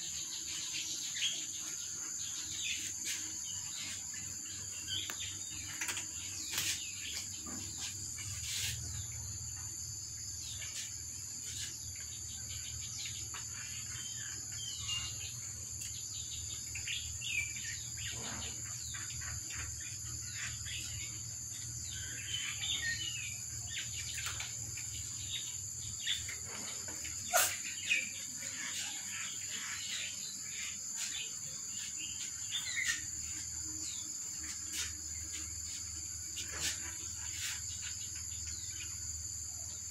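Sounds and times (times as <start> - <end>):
birds chirping: 0.0 - 39.9
insects droning: 0.0 - 39.9.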